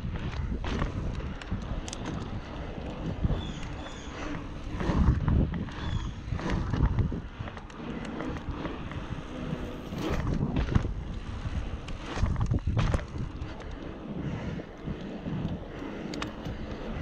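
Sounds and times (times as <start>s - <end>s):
bike clicks and rattles: 0.0s - 17.0s
tyres rumbling on pavement: 0.0s - 17.0s
wind buffeting microphone: 0.0s - 17.0s.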